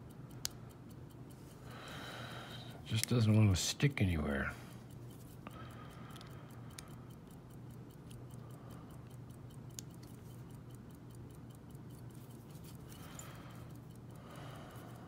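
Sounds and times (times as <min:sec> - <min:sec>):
faint regular ticking: 0:00.0 - 0:15.0
steady low hum: 0:00.0 - 0:15.0.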